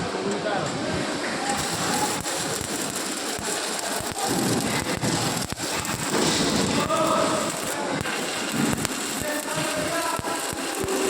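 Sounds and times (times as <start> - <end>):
arc welding crackle: 1.0 - 11.0.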